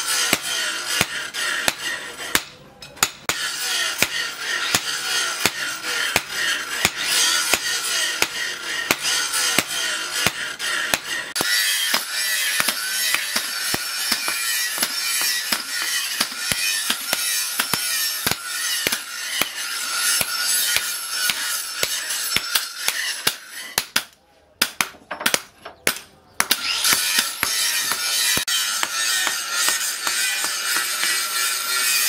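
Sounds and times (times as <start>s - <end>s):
hammer striking hot metal on anvil: 0.2s - 32.0s.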